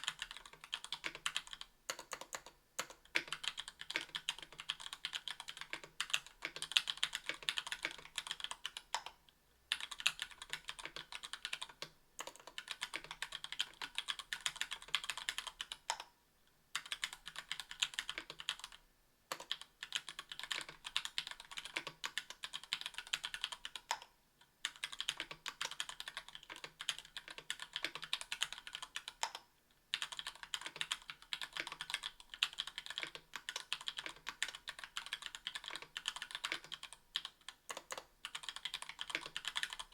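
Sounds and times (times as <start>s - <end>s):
fast typing on mechanical keyboard: 0.0s - 9.1s, 9.7s - 16.1s, 16.8s - 24.0s, 24.6s - 39.9s.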